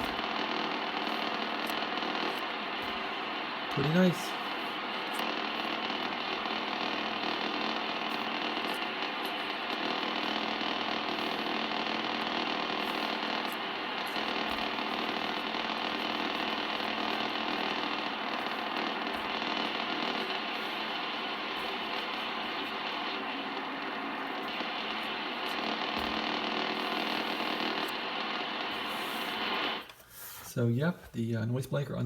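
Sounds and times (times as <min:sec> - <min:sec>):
radio receiver static hiss: 0:00.0 - 0:30.0.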